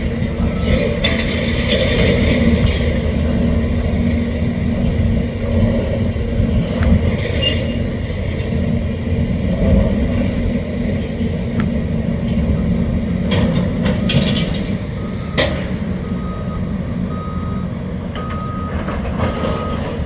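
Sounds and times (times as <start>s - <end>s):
demolition machinery engine rumble: 0.0s - 20.0s.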